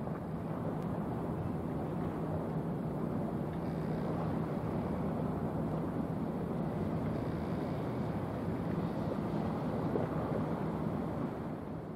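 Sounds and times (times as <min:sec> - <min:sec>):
wind and water rushing: 0:00.0 - 0:11.9.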